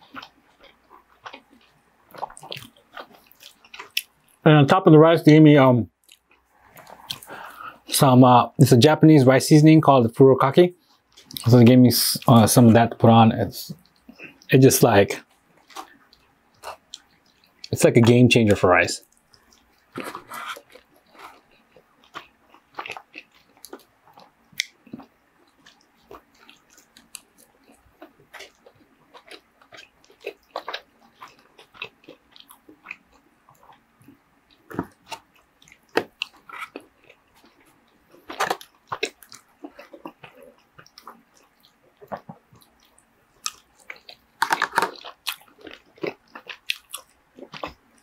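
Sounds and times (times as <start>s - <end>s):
person chewing: 0.0s - 4.4s, 6.0s - 7.9s, 10.8s - 13.0s, 13.7s - 18.2s, 19.0s - 48.0s.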